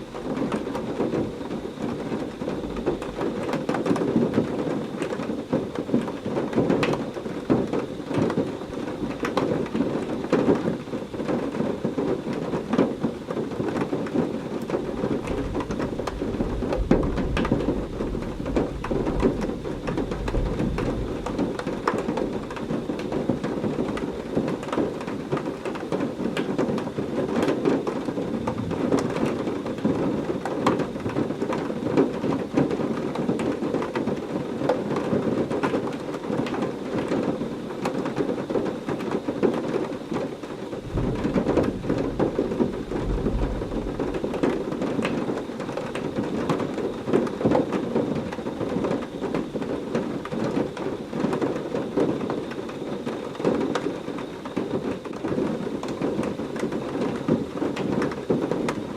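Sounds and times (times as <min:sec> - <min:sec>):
low rumble of thunder: 0:00.0 - 0:34.1, 0:39.0 - 0:52.8
heavy rain with sharp drop hits: 0:00.0 - 0:58.9.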